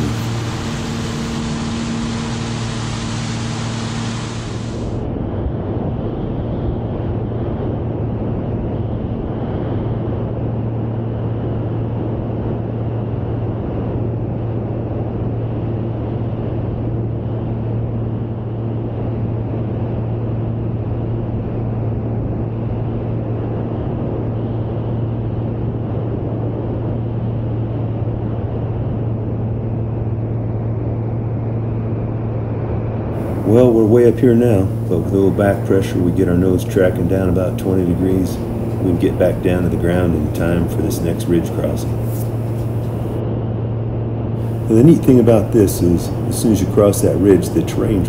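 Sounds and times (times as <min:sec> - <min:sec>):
aircraft engine and propeller drone: 0:00.0 - 0:48.0.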